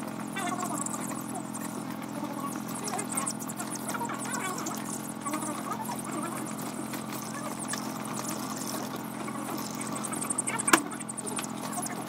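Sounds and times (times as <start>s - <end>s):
chicks peeping: 0.0s - 12.0s
low mechanical hum: 0.0s - 12.0s.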